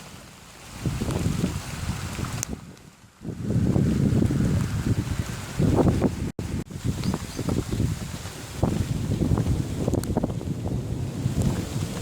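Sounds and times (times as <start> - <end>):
wind gusts buffeting microphone: 0.6 - 12.0.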